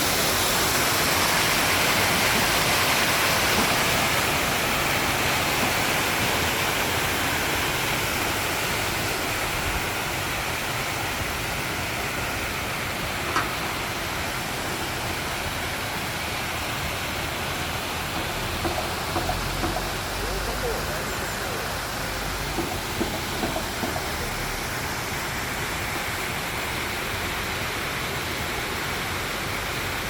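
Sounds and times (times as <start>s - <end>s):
running water rushing: 0.0s - 30.0s.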